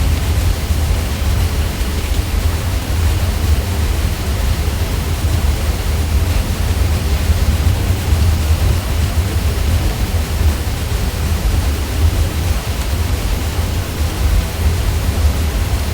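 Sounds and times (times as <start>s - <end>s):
ceiling fan humming: 0.0s - 15.9s
hiss of moving air: 0.0s - 15.9s.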